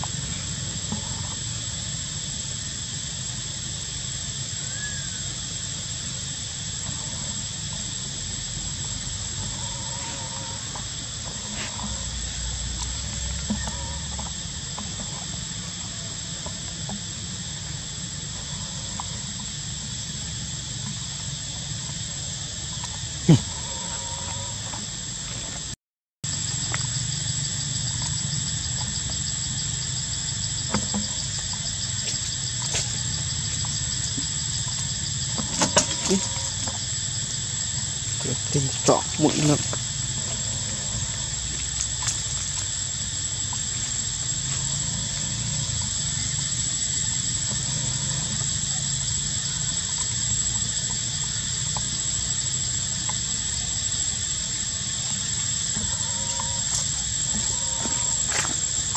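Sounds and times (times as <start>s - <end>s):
insect chorus buzzing: 0.0s - 58.9s.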